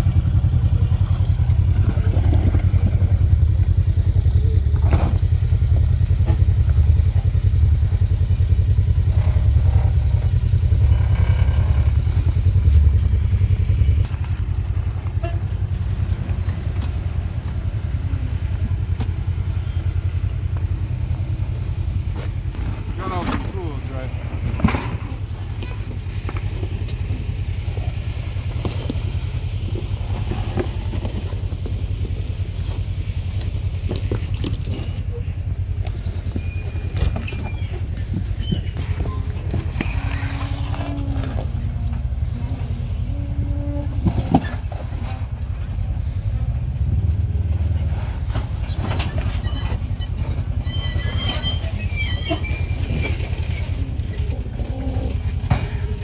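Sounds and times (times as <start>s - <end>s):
vehicle engine running at low revs: 0.0s - 56.0s.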